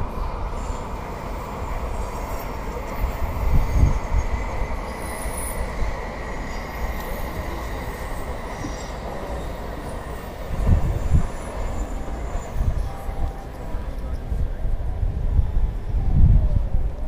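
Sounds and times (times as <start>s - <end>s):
distant train passing: 0.0s - 17.0s.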